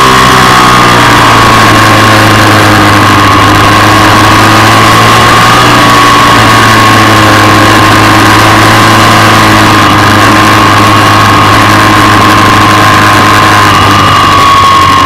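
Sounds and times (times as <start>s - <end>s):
motorcycle engine running hard: 0.0s - 15.0s.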